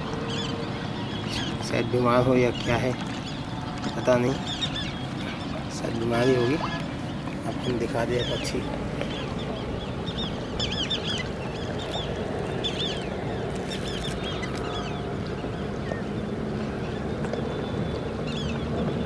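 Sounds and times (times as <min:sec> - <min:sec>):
water and wind noise: 0:00.0 - 0:19.0
waterbirds calling: 0:00.0 - 0:19.0.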